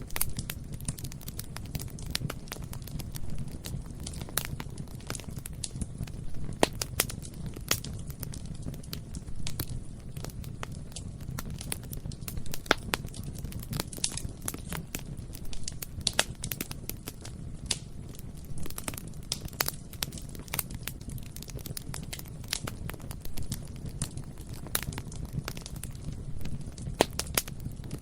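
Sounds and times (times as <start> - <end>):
bonfire flames roaring: 0.0 - 28.0
burning wood crackling and popping: 0.0 - 28.0.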